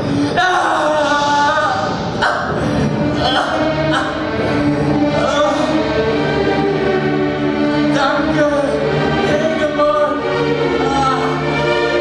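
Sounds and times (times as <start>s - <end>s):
choir singing long notes: 0.0s - 12.0s.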